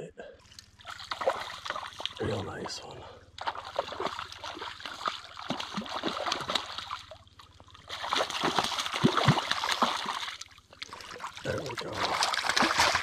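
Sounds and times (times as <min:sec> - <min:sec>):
water splashing: 0:00.4 - 0:13.0
fish thrashing at surface: 0:00.7 - 0:02.2, 0:03.4 - 0:07.2, 0:07.8 - 0:13.0.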